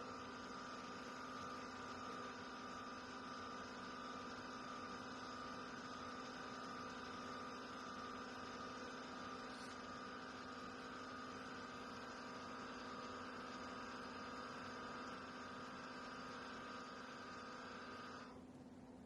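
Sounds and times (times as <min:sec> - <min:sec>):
coffee maker pump humming: 0:00.0 - 0:19.0.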